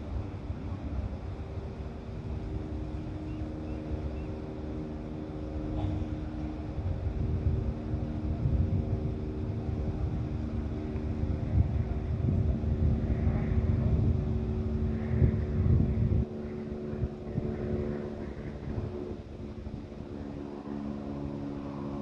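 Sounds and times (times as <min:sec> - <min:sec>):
steady mechanical hum: 0:00.0 - 0:22.0
wind buffeting microphone: 0:00.0 - 0:22.0.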